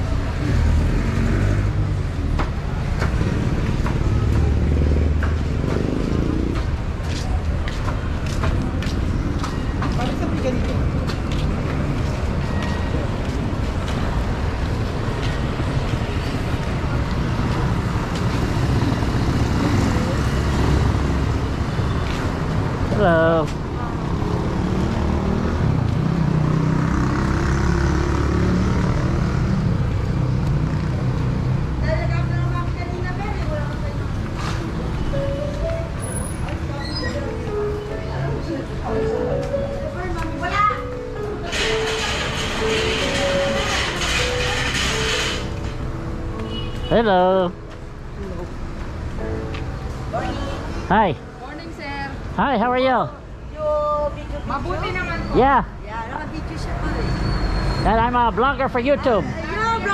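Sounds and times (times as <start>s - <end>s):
vehicle engine humming: 0.0s - 55.2s.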